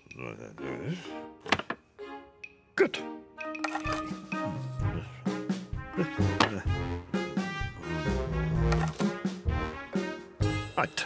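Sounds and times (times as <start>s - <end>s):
bouncy cartoon music with brass: 0.6s - 11.0s.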